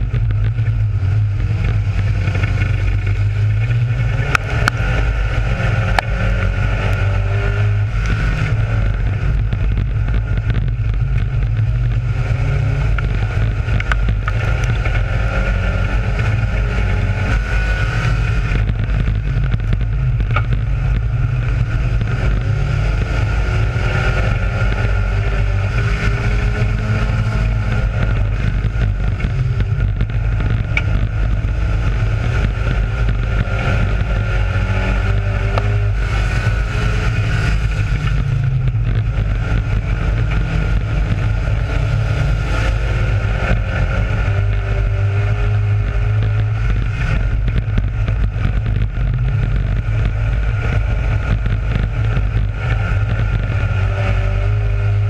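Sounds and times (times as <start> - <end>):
race car engine running hard: 0.0 - 55.0
wind on microphone: 0.0 - 55.0.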